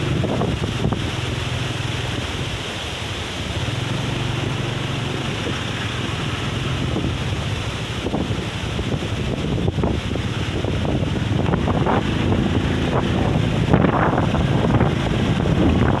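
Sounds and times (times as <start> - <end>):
wind buffeting microphone: 0.0 - 2.8, 3.4 - 16.0.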